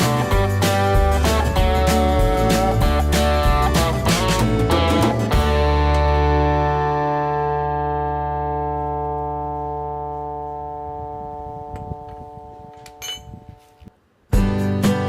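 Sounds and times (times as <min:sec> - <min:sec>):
held musical chord: 0:00.0 - 0:12.7.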